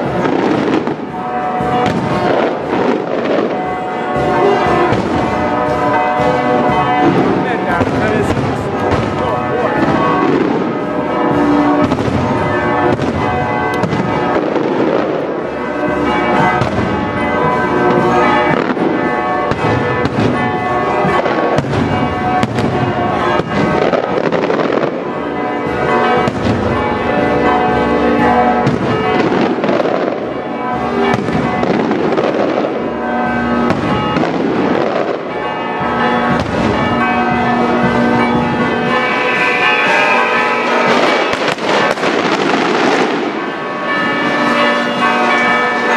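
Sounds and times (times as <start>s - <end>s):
church bells ringing: 0.0s - 45.9s
fireworks bangs: 0.0s - 45.9s.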